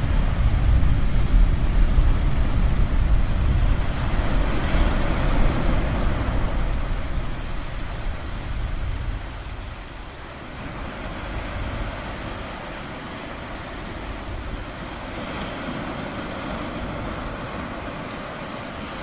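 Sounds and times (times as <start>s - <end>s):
ocean wave washing in: 0.0s - 19.0s.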